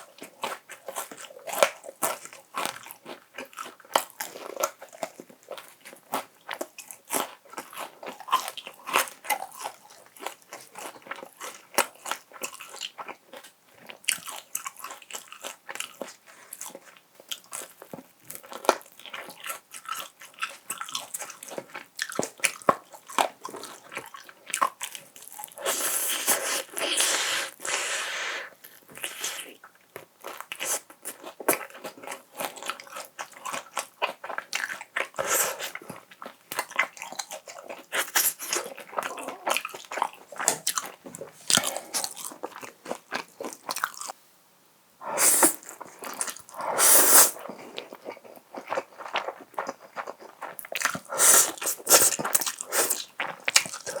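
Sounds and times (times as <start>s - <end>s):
crunching fried chicken: 0.0s - 27.9s, 28.5s - 44.2s, 45.3s - 54.0s
chewing: 0.0s - 44.2s, 45.0s - 54.0s.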